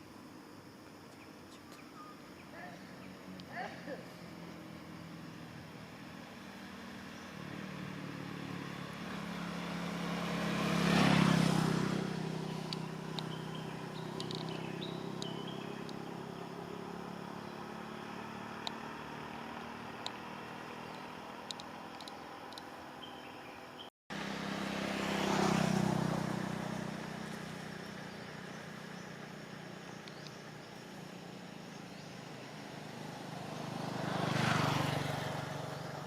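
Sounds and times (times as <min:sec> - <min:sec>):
low engine hum: 0:01.2 - 0:36.0
vehicle driving past: 0:03.0 - 0:36.0.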